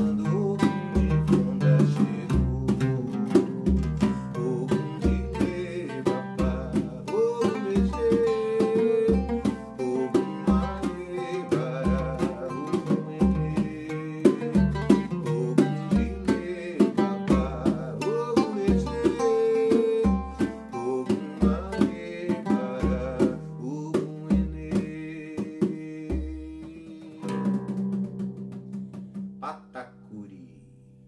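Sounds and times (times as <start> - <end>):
plucked oud notes: 0.0 - 29.6.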